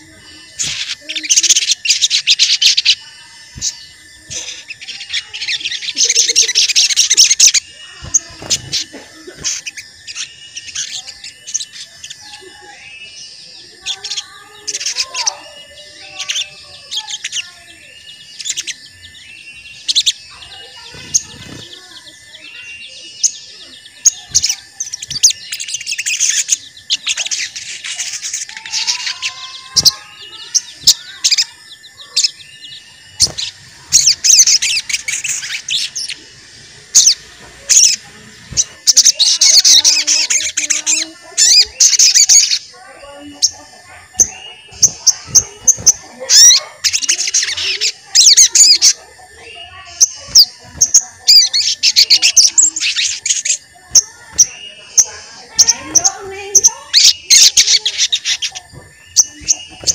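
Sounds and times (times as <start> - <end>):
dense high chirping: 0.0 - 59.9
songbird chirping: 0.0 - 59.9.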